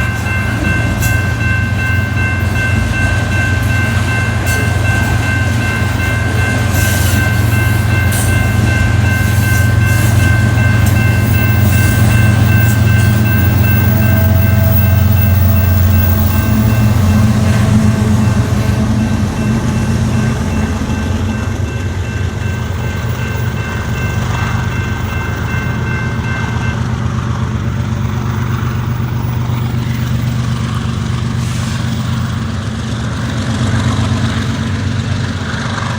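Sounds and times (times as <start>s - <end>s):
train rumbling past: 0.0s - 35.9s.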